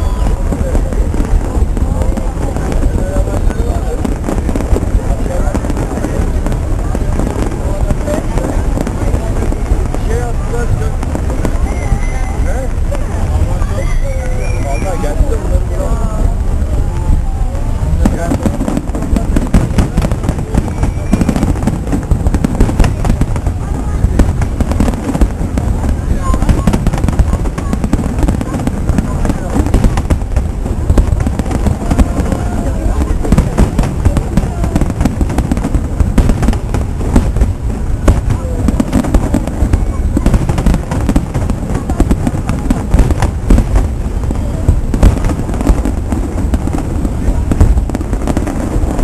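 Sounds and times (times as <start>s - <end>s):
fireworks bangs and booms: 0.0s - 49.0s.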